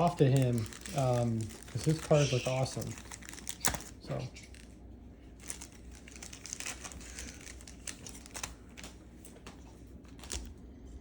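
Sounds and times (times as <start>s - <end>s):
card pack wrapper crinkling: 0.0s - 9.4s.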